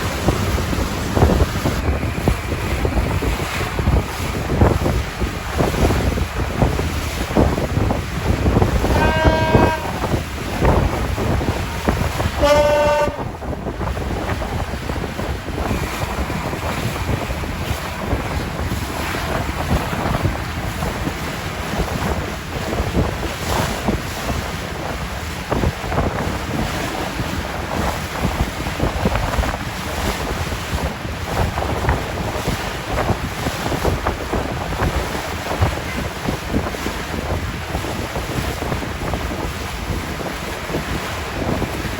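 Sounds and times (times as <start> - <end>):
rush of sea water: 0.0 - 41.9
wind buffeting microphone: 0.0 - 41.9.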